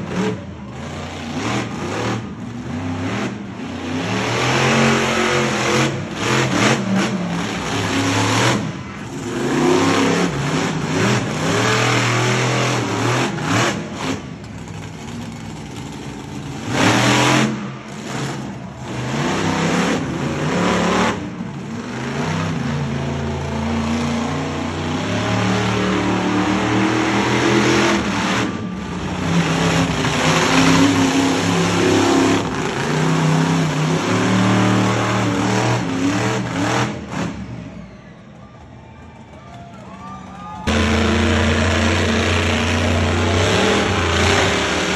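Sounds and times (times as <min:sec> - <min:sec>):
truck engine revving: 0:00.0 - 0:37.9, 0:40.6 - 0:44.9.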